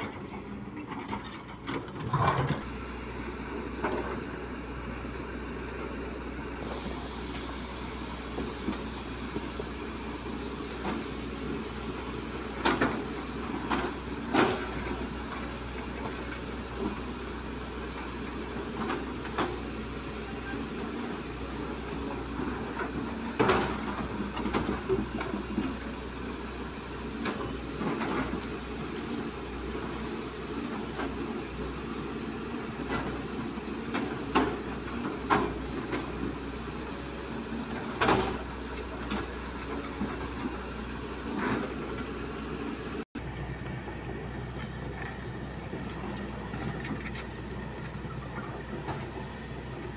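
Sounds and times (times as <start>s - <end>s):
excavator diesel engines: 0.0s - 49.9s.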